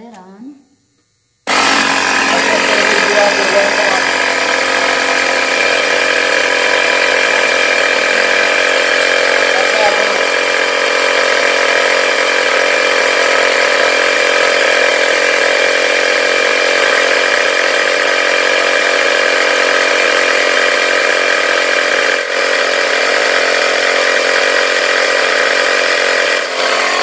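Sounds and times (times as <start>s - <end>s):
air compressor running: 0.8s - 27.0s.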